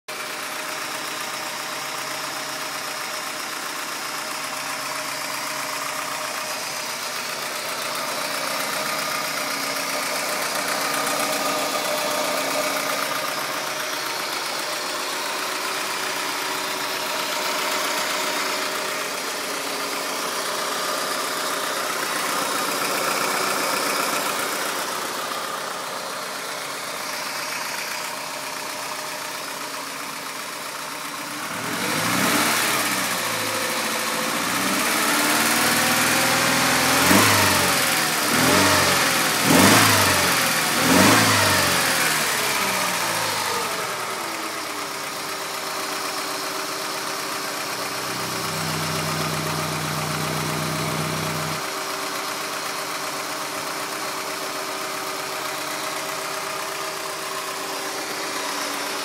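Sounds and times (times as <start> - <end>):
car engine idling and revving: 0.1 - 59.0.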